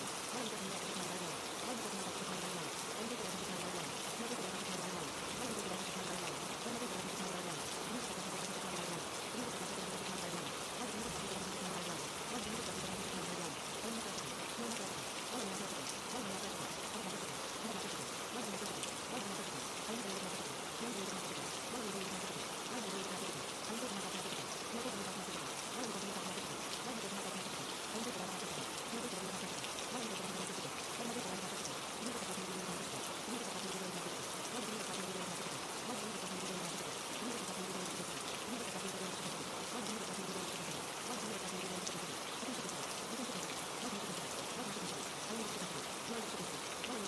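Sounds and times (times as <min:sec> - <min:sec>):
steady rain: 0:00.0 - 0:47.0.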